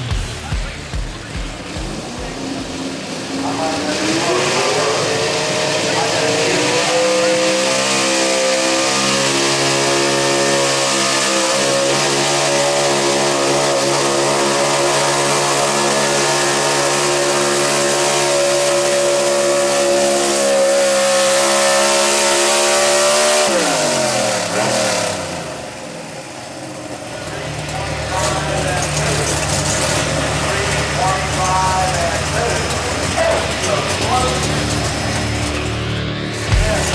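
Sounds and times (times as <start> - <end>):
truck engine at high revs: 0.0 - 36.9.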